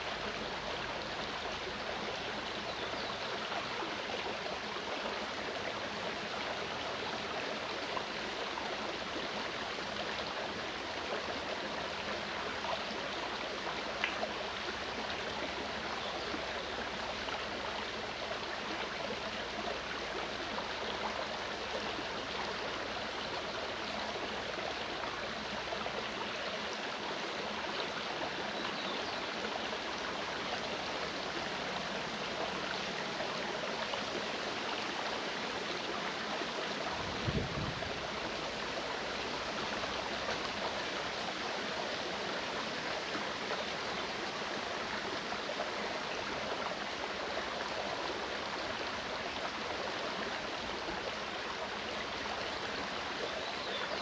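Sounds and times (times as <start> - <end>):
stream rushing and gurgling: 0.0 - 54.0.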